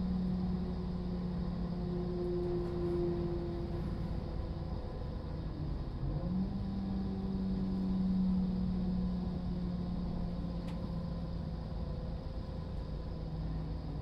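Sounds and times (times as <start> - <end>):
train running gear rumbling: 0.0 - 6.2, 7.1 - 14.0
train diesel engine droning: 0.0 - 14.0.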